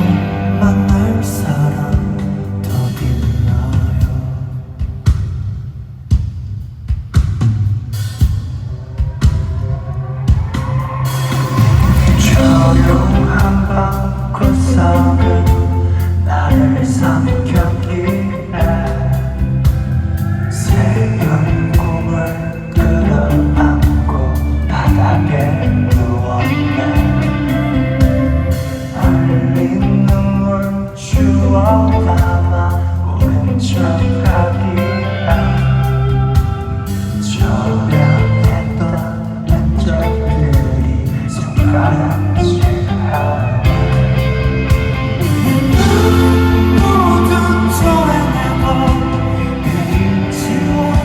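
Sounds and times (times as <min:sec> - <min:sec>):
person singing: 0:00.0 - 0:04.8, 0:09.0 - 0:51.0
bass line: 0:00.0 - 0:05.3, 0:08.2 - 0:51.0
guitars: 0:00.0 - 0:05.4, 0:08.0 - 0:51.0
drums: 0:00.0 - 0:51.0
rock band playing: 0:00.0 - 0:51.0.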